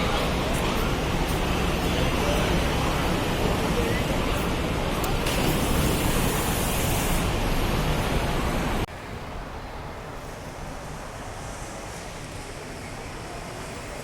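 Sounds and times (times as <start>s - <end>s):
loud rushing noise: 0.0s - 14.0s
steady hiss: 0.0s - 14.0s.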